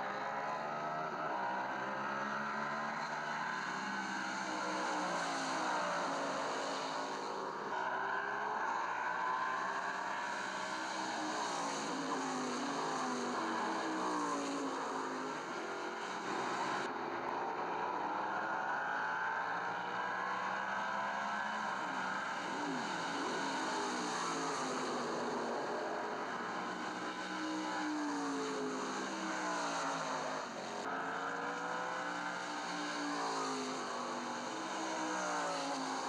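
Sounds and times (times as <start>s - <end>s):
race car engines revving: 0.0s - 36.0s.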